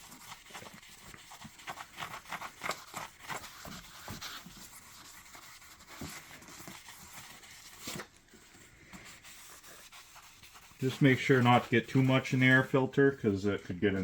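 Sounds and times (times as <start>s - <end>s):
steel wool scrubbing plastic: 0.0s - 8.1s, 8.9s - 14.0s.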